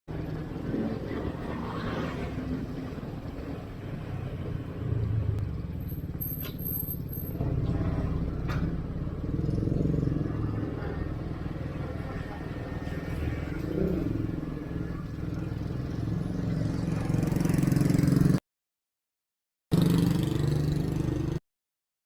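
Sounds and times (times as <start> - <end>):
vehicle engines rumbling in traffic: 0.1 - 18.4.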